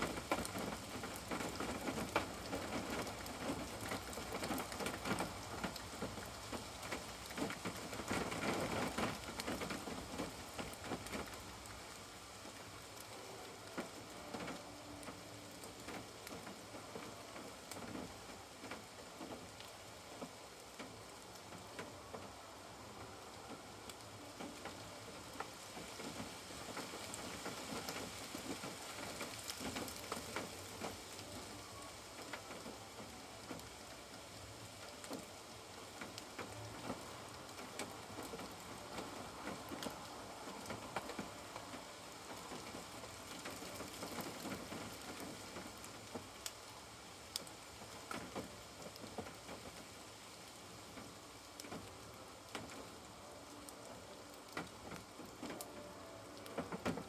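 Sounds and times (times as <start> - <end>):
rain drops ticking on caravan: 0.0 - 57.0.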